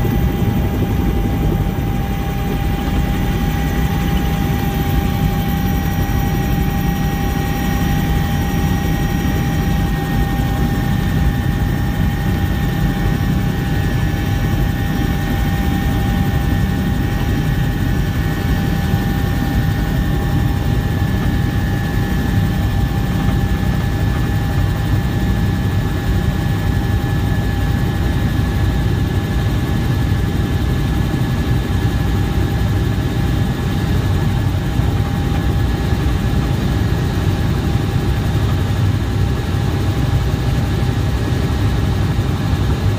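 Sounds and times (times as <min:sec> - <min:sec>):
helicopter rotor and engine rumble: 0:00.0 - 0:42.9
high turbine whine: 0:00.0 - 0:42.9.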